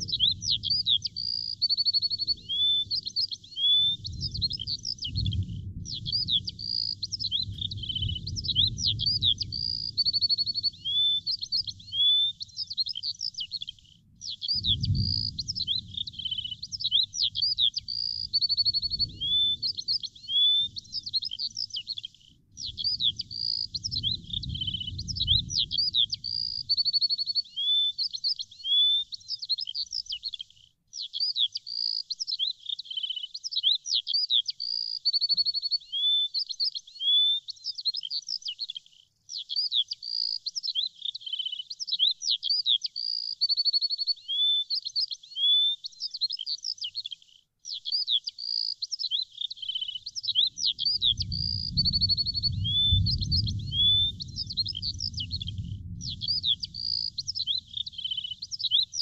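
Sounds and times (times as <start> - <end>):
birds chirping and warbling: 0.0 - 59.0.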